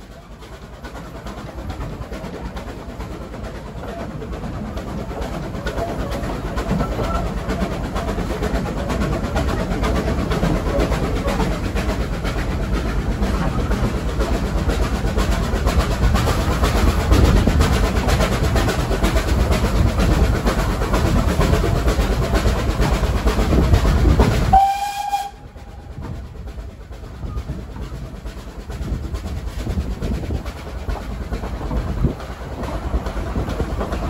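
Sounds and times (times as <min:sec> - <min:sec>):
steam engines working: 0:00.0 - 0:34.0
train wheels clattering over rail joints: 0:00.0 - 0:34.0.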